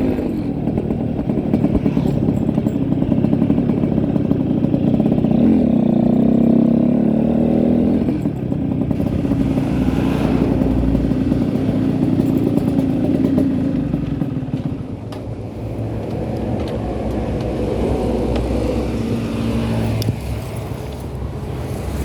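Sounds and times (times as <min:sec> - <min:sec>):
two-stroke motorcycle engine running: 0:00.0 - 0:22.0.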